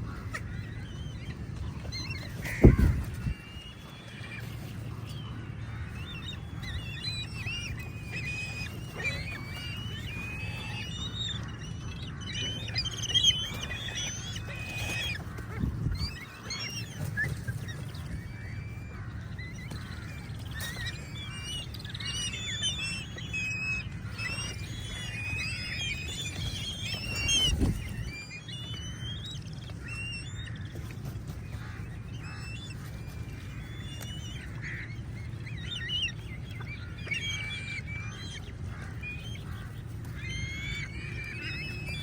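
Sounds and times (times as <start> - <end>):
flock of birds calling: 0.0 - 42.0.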